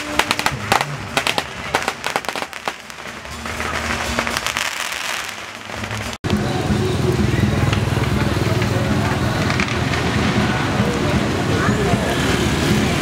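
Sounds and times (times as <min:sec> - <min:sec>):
firecrackers cracking: 0:00.0 - 0:13.0.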